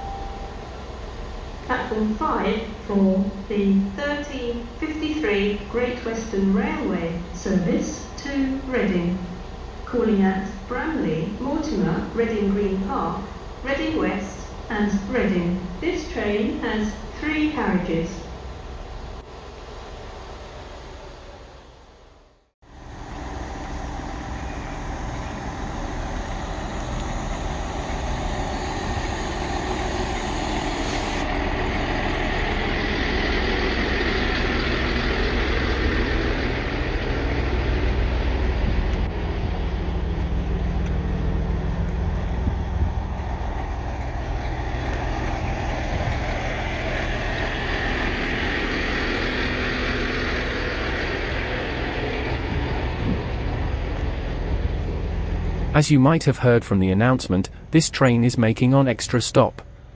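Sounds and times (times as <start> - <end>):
diesel train rumble: 0.0 - 59.9.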